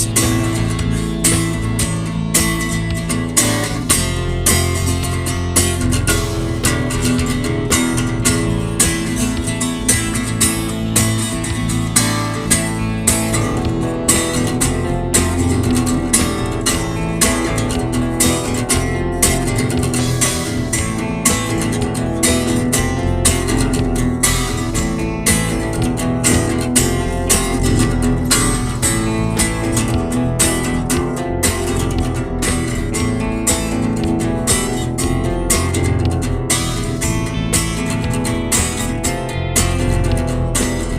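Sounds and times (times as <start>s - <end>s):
strummed guitar: 0.0s - 40.9s.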